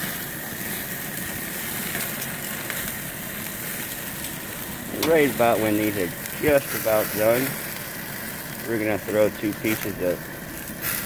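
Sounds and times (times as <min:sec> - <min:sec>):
faint crackles: 0:00.0 - 0:11.0
meat sizzling on a gas grill: 0:00.0 - 0:11.0.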